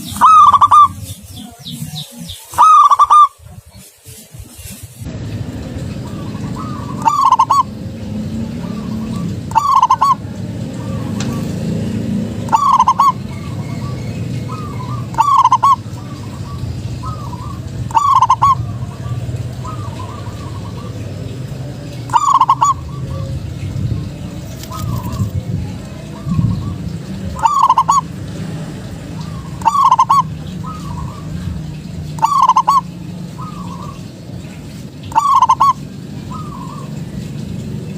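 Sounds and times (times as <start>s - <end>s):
dove cooing: 0.0s - 1.1s, 2.0s - 3.6s, 6.0s - 28.2s, 29.0s - 34.2s, 35.0s - 37.5s.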